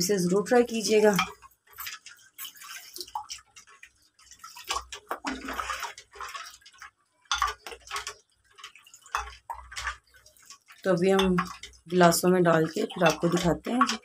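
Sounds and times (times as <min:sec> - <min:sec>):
juice splashing and pouring: 0:00.0 - 0:14.0.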